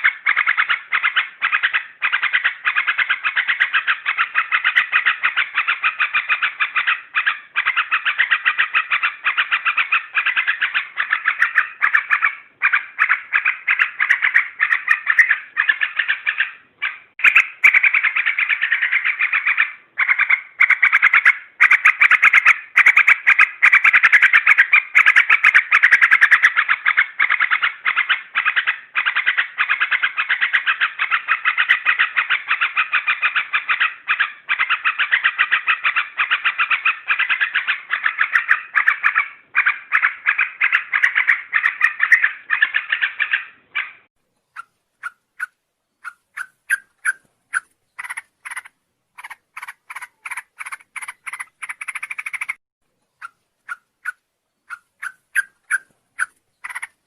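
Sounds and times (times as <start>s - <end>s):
bird chattering song: 0.0s - 57.0s.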